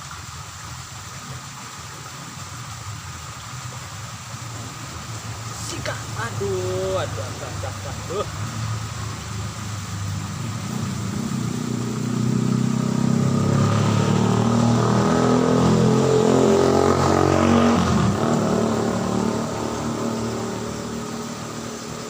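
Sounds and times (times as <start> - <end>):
vehicle engine passing by: 3.2 - 22.0.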